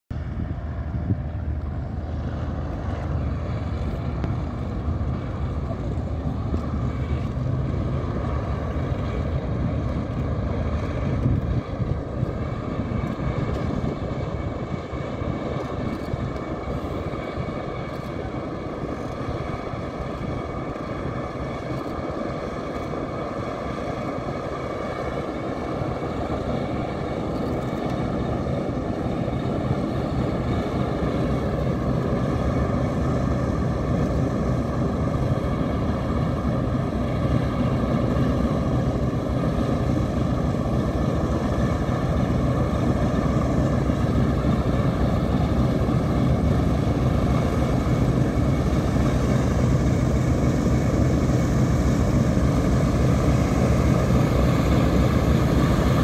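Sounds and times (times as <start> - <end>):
propeller plane engine rumbling: 0.1 - 56.0.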